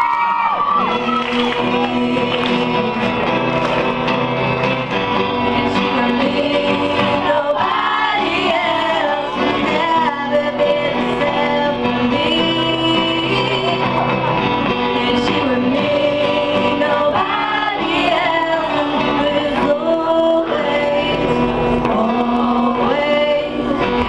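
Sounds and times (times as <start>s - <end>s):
people singing: 0.0s - 3.6s, 5.1s - 24.0s.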